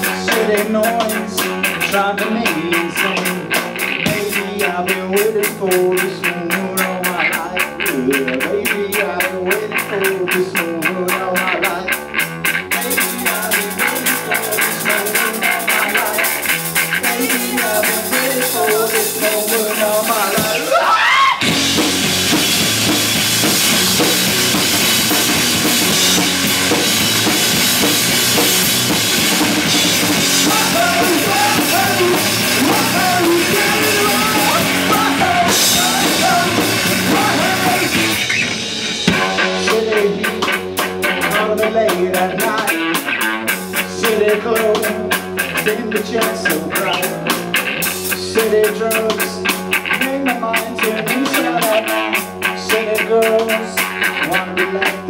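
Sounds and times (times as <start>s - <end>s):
drums playing tight beat: 0.0s - 55.0s
live rock band playing loud: 0.0s - 55.0s.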